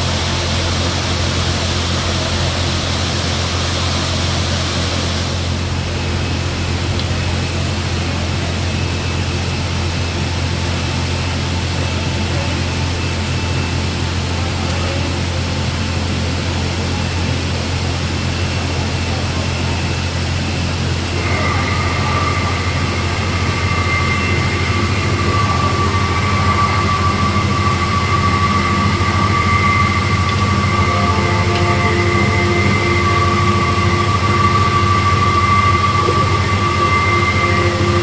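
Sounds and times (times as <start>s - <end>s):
ambient music drone: 0.0s - 38.0s
high sustained tone: 0.0s - 38.0s.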